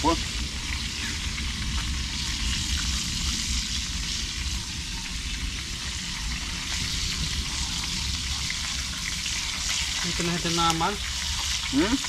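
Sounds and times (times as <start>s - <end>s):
meat frying in hot oil: 0.0s - 12.0s.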